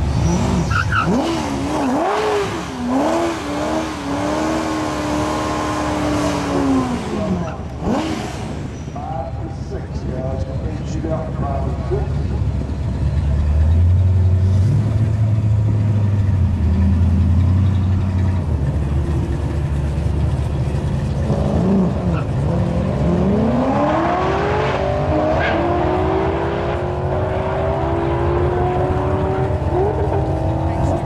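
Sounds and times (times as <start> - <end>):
car engines idling: 0.0 - 23.5, 26.8 - 31.0
car engines revving hard: 0.0 - 31.0.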